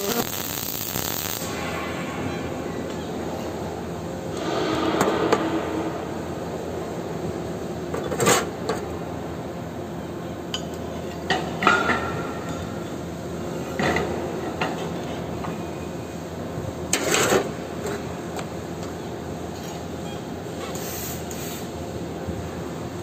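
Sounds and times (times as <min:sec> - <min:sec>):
workshop hum: 0:00.0 - 0:23.0.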